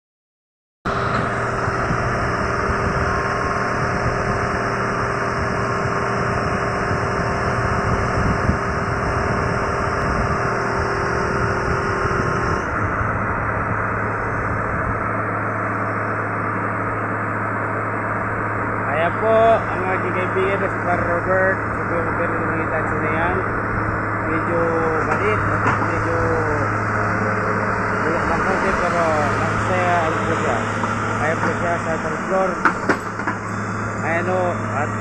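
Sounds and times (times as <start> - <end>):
excavator diesel engine running: 0.9 - 35.0
steady hum: 0.9 - 35.0.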